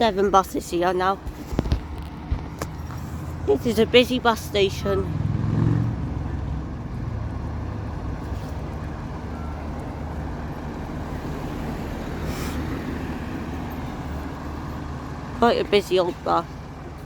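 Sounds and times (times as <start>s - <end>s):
buses idling: 0.0s - 17.0s.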